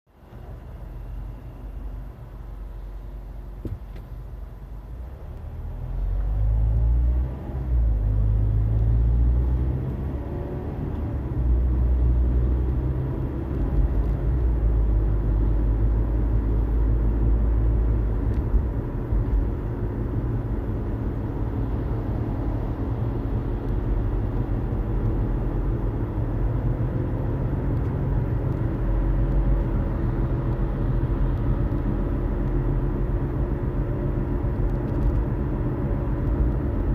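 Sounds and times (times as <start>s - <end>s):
road noise: 0.1s - 36.9s
car engine accelerating: 5.2s - 36.9s.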